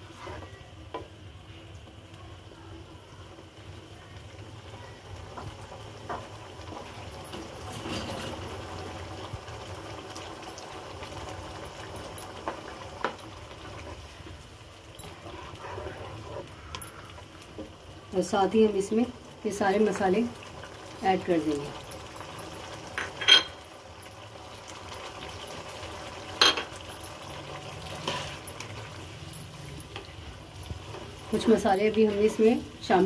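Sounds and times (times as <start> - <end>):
food bubbling and sizzling: 0.0 - 33.0.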